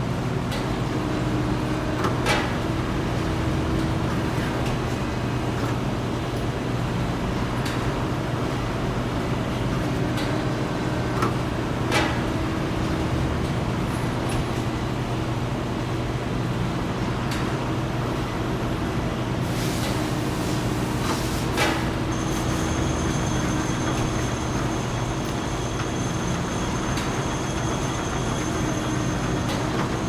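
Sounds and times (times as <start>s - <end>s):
factory machinery humming: 0.0s - 30.0s.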